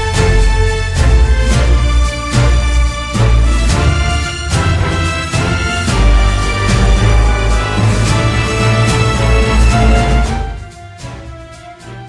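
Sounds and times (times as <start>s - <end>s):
music with heavy bass and beat: 0.0s - 10.8s.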